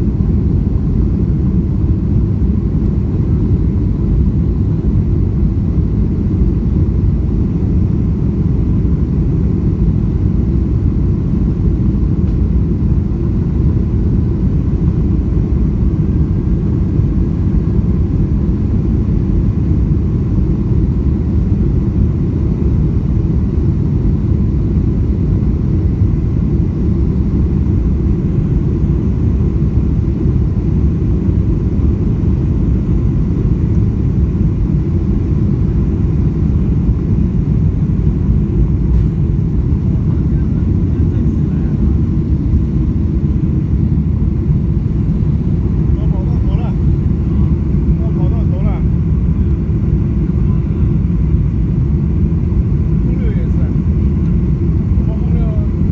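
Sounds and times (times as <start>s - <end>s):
airliner cabin engine rumble: 0.0s - 55.9s.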